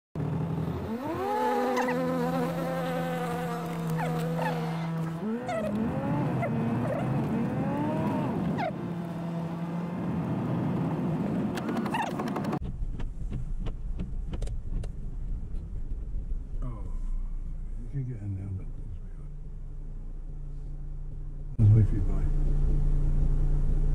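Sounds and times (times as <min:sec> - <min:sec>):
van engine rumbling: 0:00.2 - 0:23.9.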